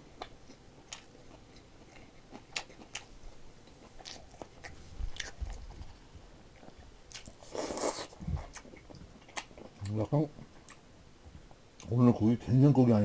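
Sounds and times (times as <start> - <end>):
person chewing food: 0.0 - 10.8.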